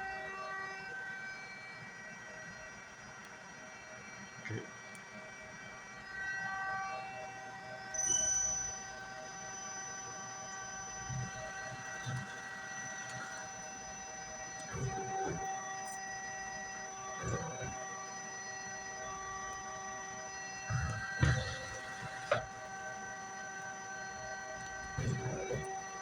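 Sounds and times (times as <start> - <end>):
shop machinery humming and whining: 0.0 - 26.0.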